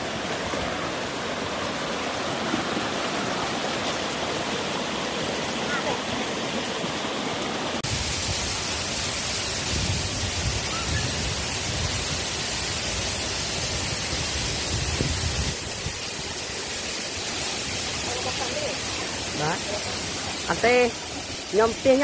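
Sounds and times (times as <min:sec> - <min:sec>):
waterfall rushing onto rocks: 0:00.0 - 0:22.0.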